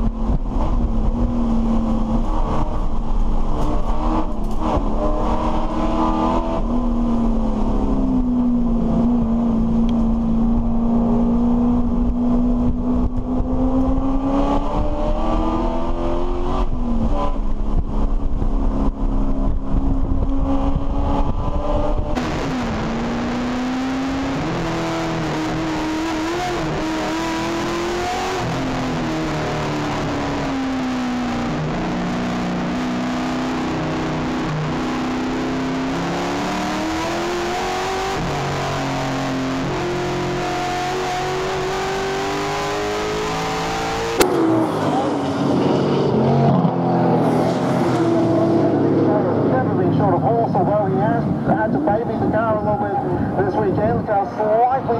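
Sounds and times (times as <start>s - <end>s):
race car engine: 0.0s - 54.9s
road and wind noise: 0.0s - 54.9s.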